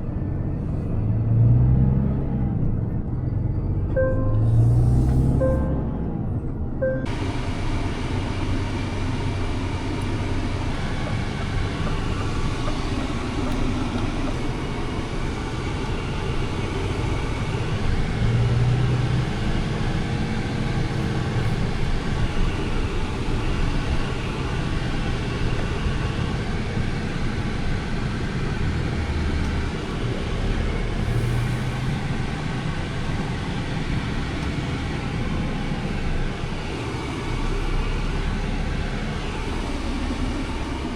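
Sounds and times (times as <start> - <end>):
road noise: 0.0 - 40.9
truck diesel engine drone: 0.0 - 40.9.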